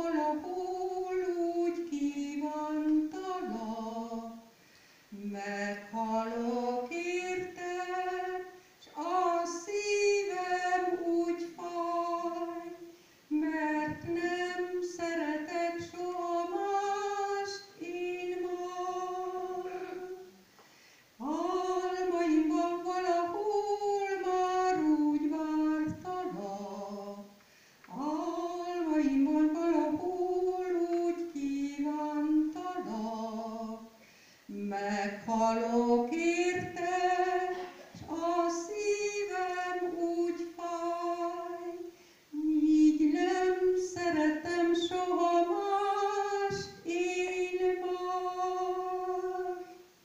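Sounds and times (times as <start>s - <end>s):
woman singing into a microphone: 0.0s - 20.5s, 21.2s - 50.0s.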